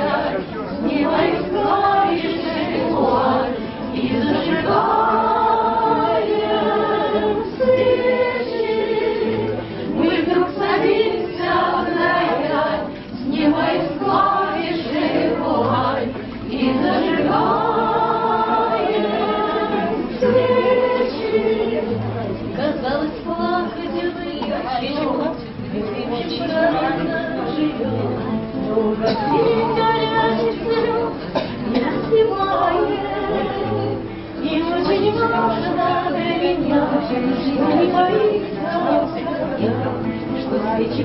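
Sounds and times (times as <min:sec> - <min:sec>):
choir singing: 0:00.0 - 0:24.1, 0:25.7 - 0:28.2, 0:28.8 - 0:41.0.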